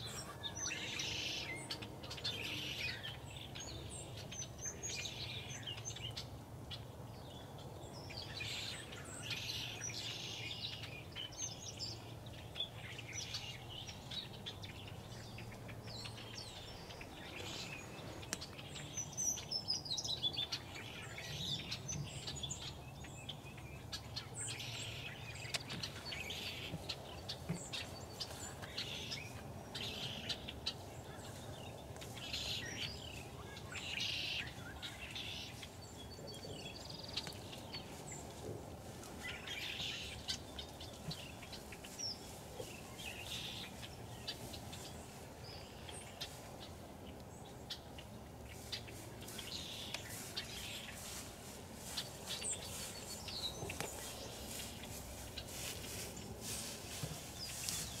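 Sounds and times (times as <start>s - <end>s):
low background noise: 0.0s - 58.0s
small birds chirping: 0.0s - 58.0s.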